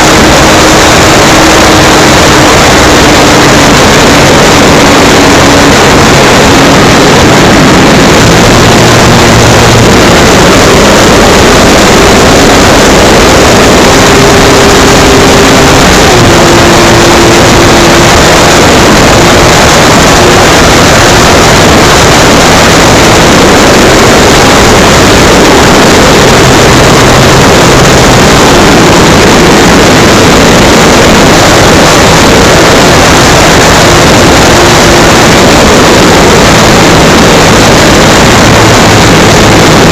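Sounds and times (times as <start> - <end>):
model plane electric motor and propeller: 0.0 - 39.9
wind rush over microphone: 0.0 - 39.9.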